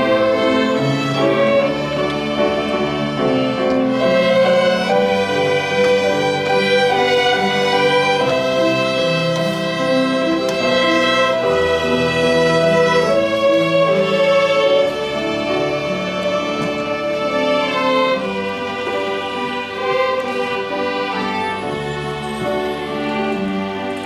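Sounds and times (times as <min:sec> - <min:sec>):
string accompaniment: 0:00.0 - 0:24.0
violin melody: 0:00.0 - 0:24.0.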